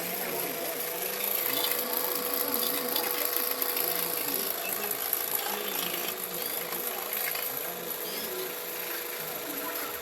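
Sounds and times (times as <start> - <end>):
small machine rattling and whining: 0.0 - 10.0.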